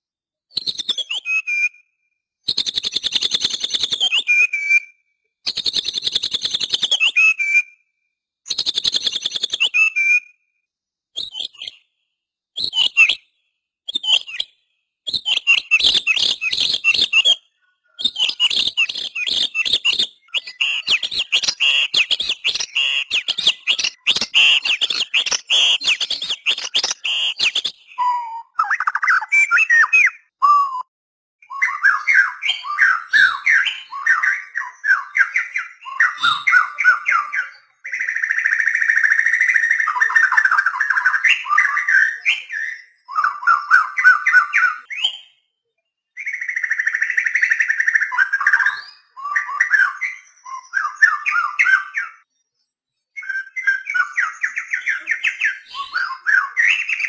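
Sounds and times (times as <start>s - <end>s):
bird singing: 0.5s - 7.8s, 8.5s - 12.0s, 12.6s - 45.4s, 46.0s - 57.0s.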